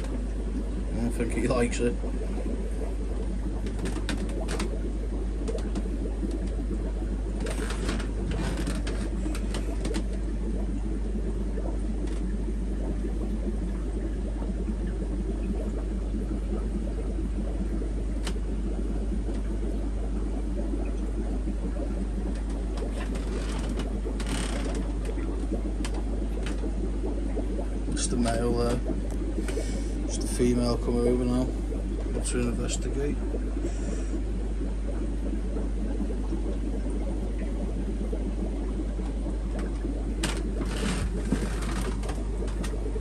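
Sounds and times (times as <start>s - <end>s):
aquarium pumps humming: 0.0s - 43.0s.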